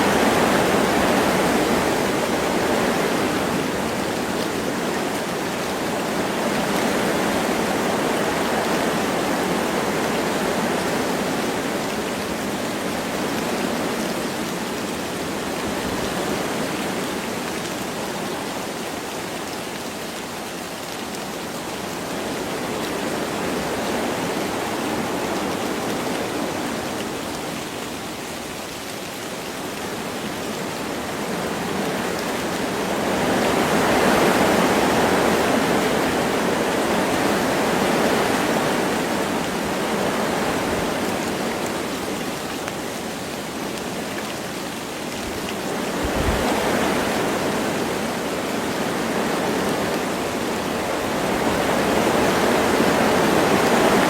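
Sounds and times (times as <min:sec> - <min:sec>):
light rain: 0:00.0 - 0:54.0
wind through trees: 0:00.0 - 0:54.0.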